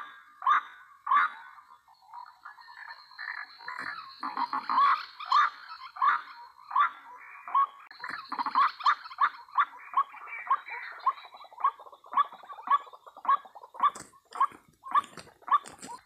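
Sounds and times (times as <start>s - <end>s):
bird chattering: 0.4s - 16.0s.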